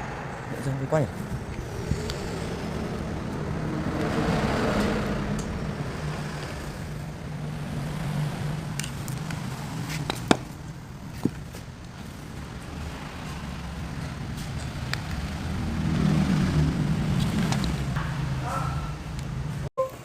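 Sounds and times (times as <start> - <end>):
vehicle engine humming: 0.0 - 19.7
vehicle passing rush: 0.0 - 19.7.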